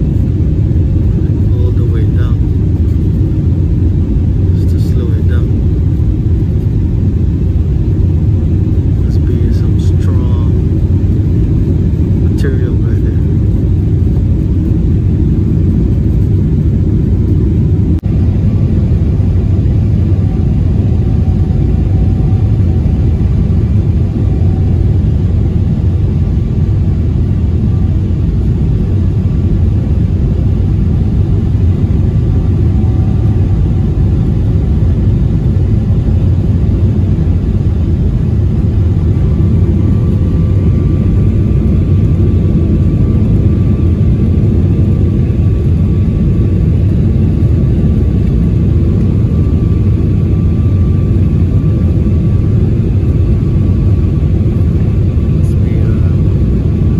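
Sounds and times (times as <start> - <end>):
faint steady whines: 0.0 - 56.9
jet engines roaring in cabin: 0.0 - 56.9.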